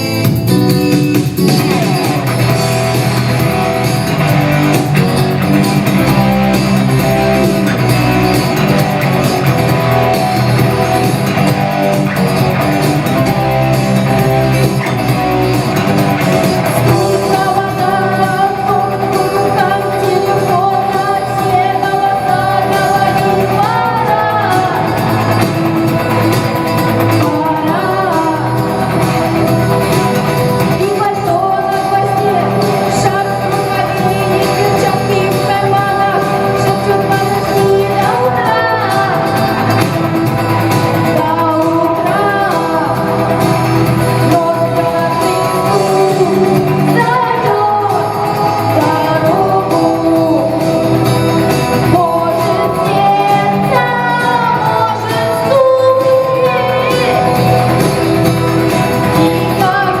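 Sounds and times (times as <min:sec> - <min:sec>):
rock song with singing: 0:00.0 - 1:00.0.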